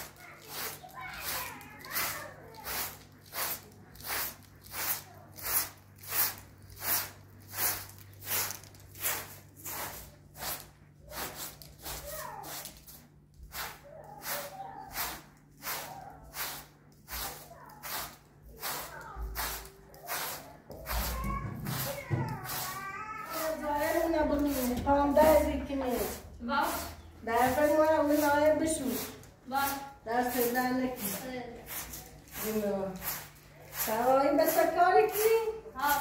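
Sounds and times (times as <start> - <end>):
hand broom sweeping a rug: 0.0 - 36.0.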